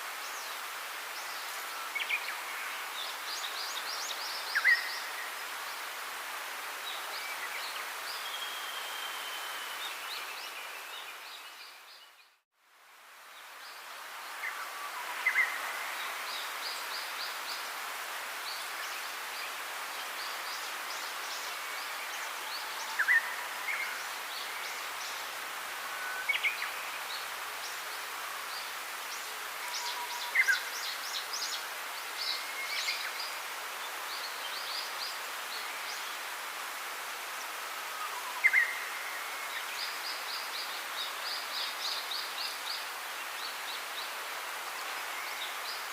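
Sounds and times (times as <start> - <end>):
steady hiss: 0.0 - 45.9.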